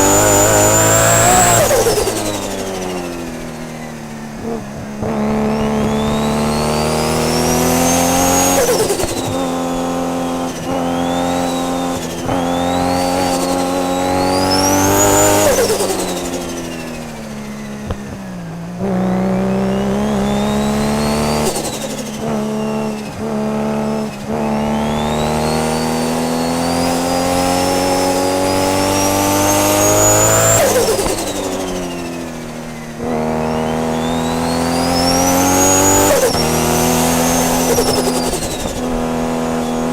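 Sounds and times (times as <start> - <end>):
car engine revving under load: 0.0 - 39.9.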